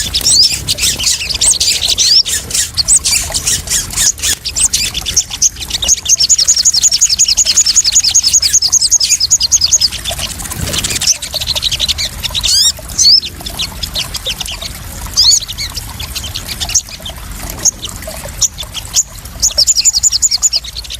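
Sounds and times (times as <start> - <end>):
bird chirping trills: 0.0 - 20.9
pouring water splash: 0.0 - 20.9
trickling splashing water: 0.0 - 20.9.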